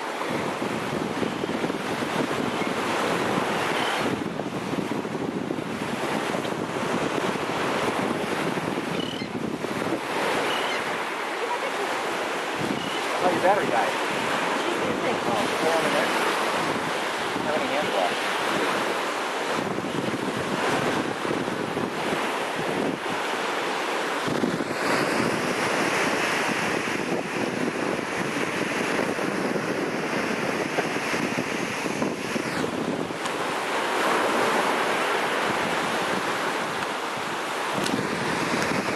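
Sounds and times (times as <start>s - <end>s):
surf washing on beach: 0.0s - 38.9s
wind buffeting microphone: 0.0s - 38.9s.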